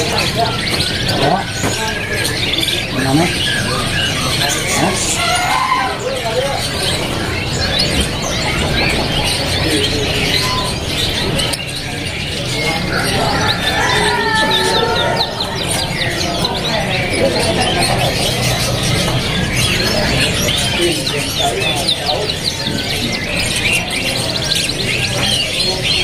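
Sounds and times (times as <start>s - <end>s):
canaries chirping and singing: 0.0s - 26.0s
people's voices: 0.0s - 26.0s.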